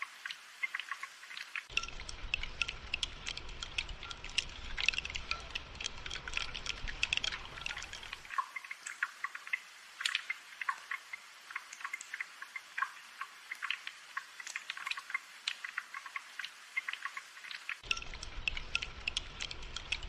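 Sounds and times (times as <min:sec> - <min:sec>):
raindrops dripping and pattering: 0:00.0 - 0:20.0.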